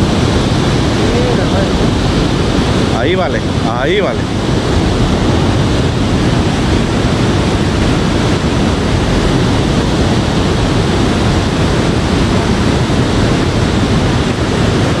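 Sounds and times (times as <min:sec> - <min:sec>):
loud steady rushing noise: 0:00.0 - 0:15.0.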